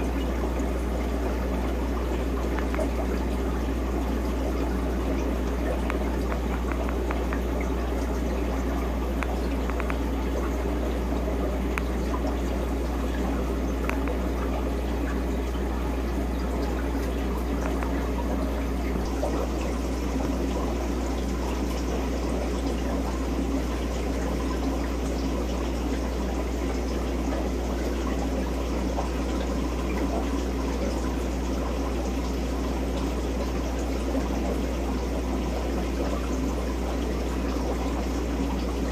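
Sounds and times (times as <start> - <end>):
constant low hum: 0.0 - 38.9
water trickling and splashing: 0.0 - 38.9.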